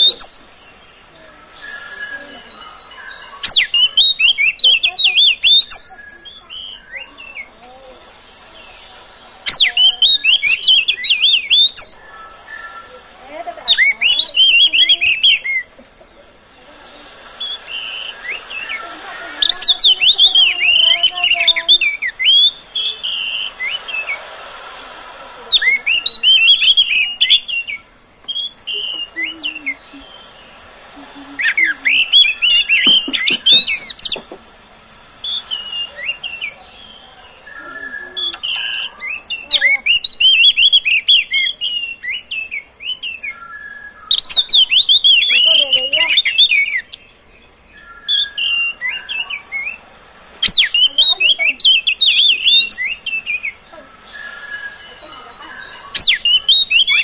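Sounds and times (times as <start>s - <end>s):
bird singing whistled phrases: 0.0s - 0.8s, 1.5s - 7.6s, 9.4s - 15.7s, 17.3s - 24.3s, 25.5s - 30.6s, 31.4s - 34.2s, 35.2s - 49.8s, 50.4s - 57.0s.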